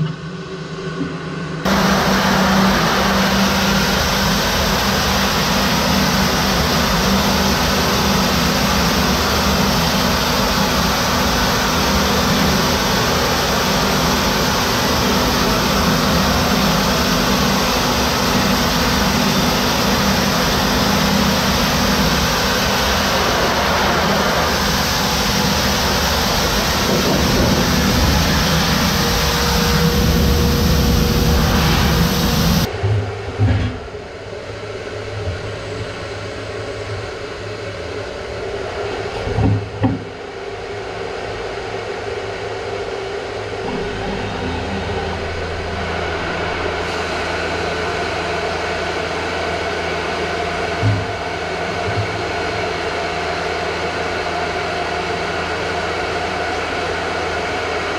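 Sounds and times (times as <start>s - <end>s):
factory machinery roar: 0.0s - 57.9s.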